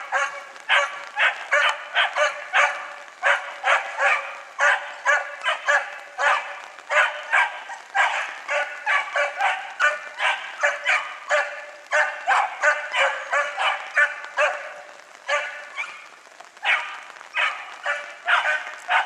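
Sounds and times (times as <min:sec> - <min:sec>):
hounds yelping barks: 0:00.0 - 0:19.0.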